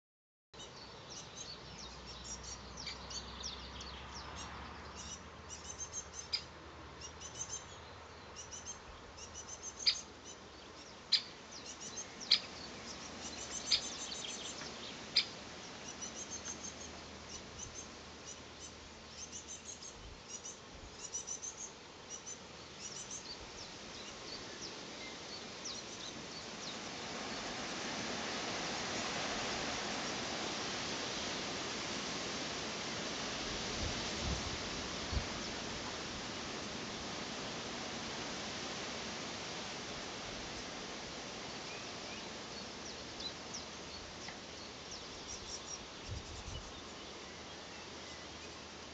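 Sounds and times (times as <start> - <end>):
songbirds chirping: 0.6 - 48.9.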